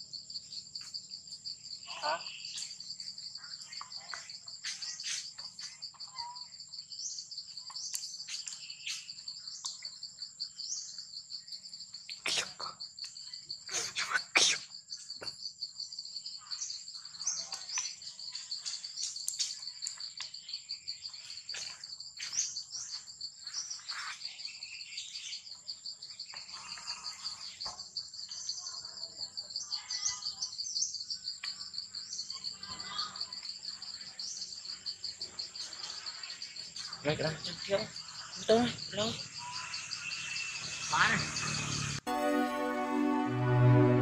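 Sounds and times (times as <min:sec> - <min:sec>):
faint chirps: 0:00.0 - 0:42.0
insect chorus trilling: 0:00.0 - 0:42.0.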